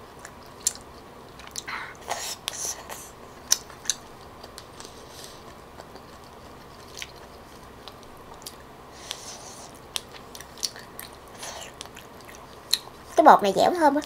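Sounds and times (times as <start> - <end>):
chewing with wet mouth sounds: 0.0 - 1.8, 3.4 - 13.2.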